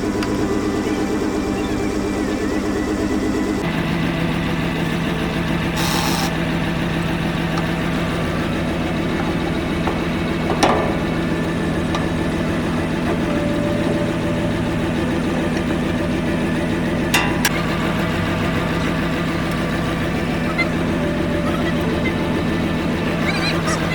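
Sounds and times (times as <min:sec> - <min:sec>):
heavy engine idling: 0:00.0 - 0:23.9.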